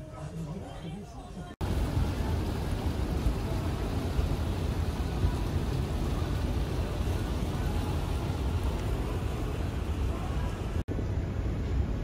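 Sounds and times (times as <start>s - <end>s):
wind buffeting microphone: 1.6s - 12.0s.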